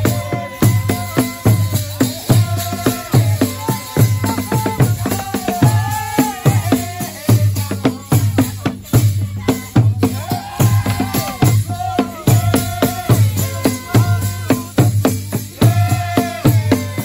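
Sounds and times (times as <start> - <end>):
drums beating driving rhythm: 0.0 - 17.0
voices singing held notes: 0.0 - 17.0.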